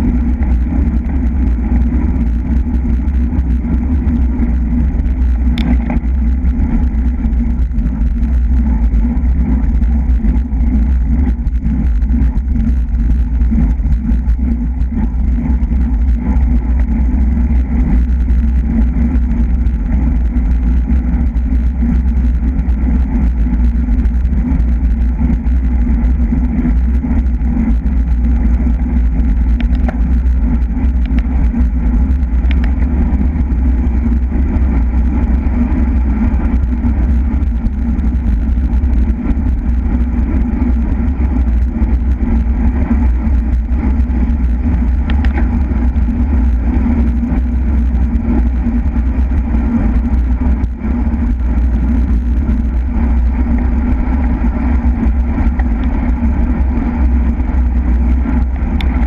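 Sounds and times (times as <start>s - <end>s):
tyre and road noise: 0.0s - 59.0s
wind rushing over microphone: 0.0s - 59.0s.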